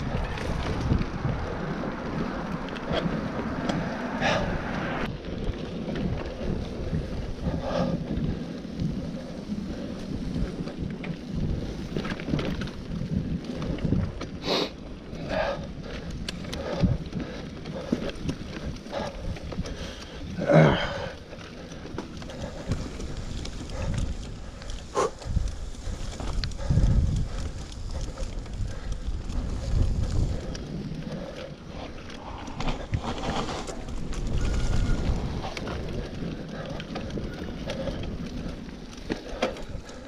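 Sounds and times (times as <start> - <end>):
bike rattling and knocking: 0.0 - 4.4, 5.0 - 40.0
bike tyres rolling on dirt: 0.0 - 40.0.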